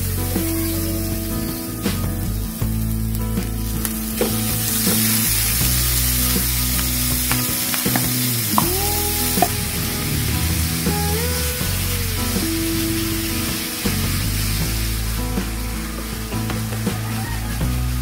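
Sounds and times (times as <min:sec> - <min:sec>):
meat sizzling in a pan: 0:00.0 - 0:18.0.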